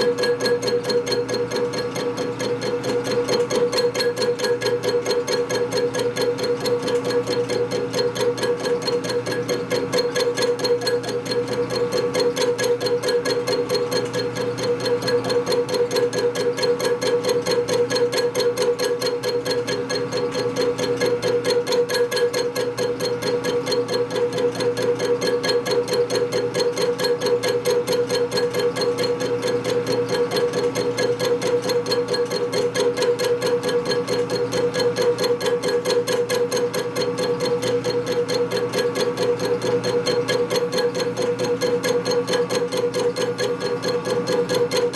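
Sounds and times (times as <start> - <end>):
machine tool cutting metal: 0.0 - 44.9.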